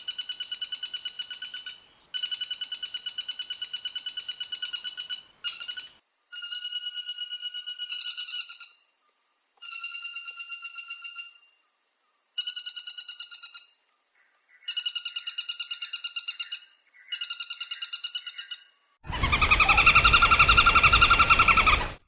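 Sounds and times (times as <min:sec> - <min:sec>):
woodpecker calling: 0:00.0 - 0:08.8, 0:12.4 - 0:22.0.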